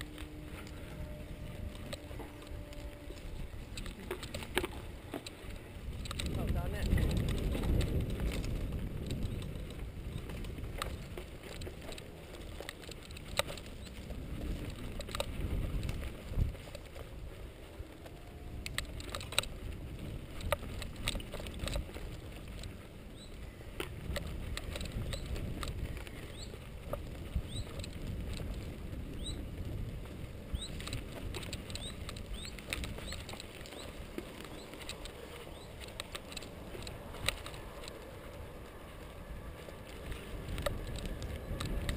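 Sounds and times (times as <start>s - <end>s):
bike clicks and rattles: 0.0s - 41.9s
bike tyres rumbling on grass: 0.0s - 41.9s
wind on microphone: 0.0s - 41.9s.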